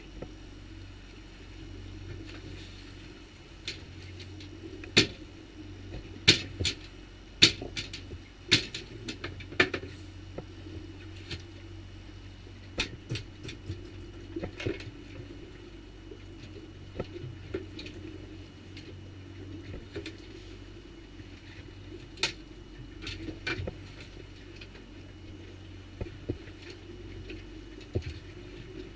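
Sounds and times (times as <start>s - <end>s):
outboard motor humming: 0.0s - 28.9s.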